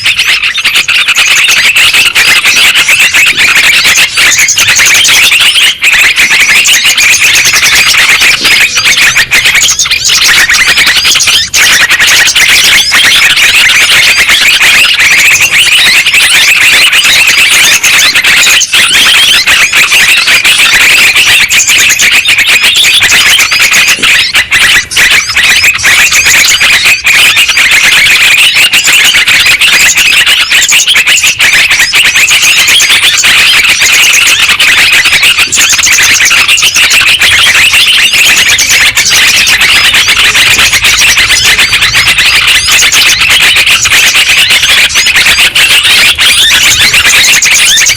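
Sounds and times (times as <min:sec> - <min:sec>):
bulbuls chattering chorus: 0:00.0 - 0:47.9.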